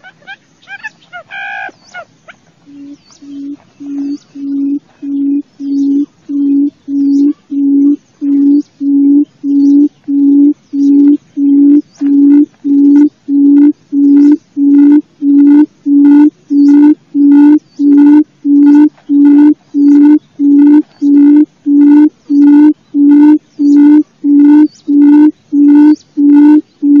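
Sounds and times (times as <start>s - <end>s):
quail call hooting: 0.0s - 27.0s.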